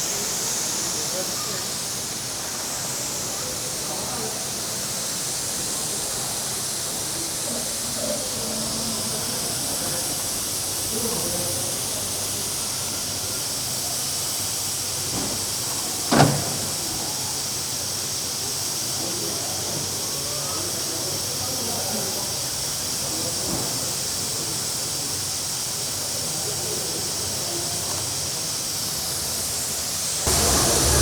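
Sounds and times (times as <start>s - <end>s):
steam hissing from locomotive: 0.0s - 31.0s.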